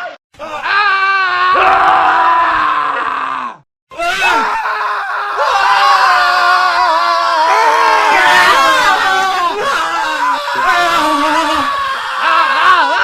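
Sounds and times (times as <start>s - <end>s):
men screaming: 0.4s - 13.0s.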